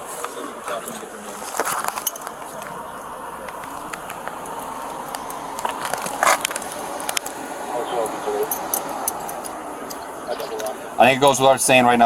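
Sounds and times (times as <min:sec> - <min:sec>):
rustling near microphone: 0:00.0 - 0:11.1.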